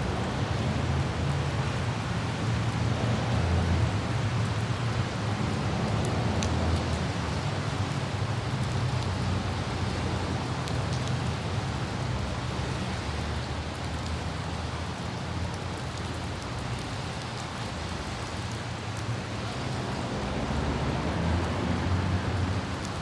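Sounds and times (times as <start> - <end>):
car driving on wet road: 0.0 - 23.0
light rain hissing: 0.0 - 23.0
raindrop ticks: 0.0 - 23.0.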